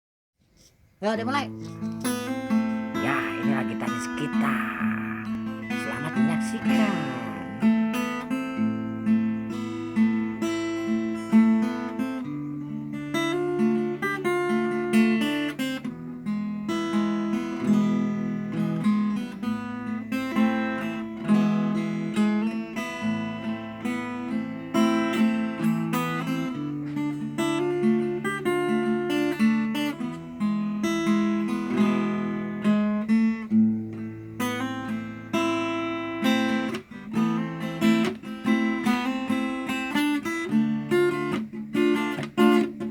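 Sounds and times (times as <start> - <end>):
acoustic guitar picking: 1.0 - 42.9.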